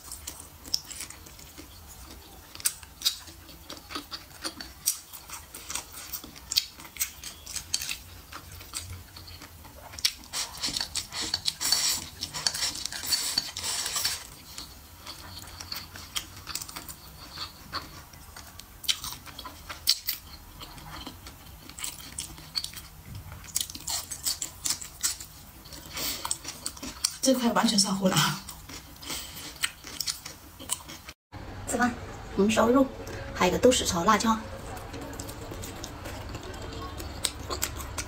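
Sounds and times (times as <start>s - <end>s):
wet chewing: 0.0s - 31.2s, 34.1s - 38.0s.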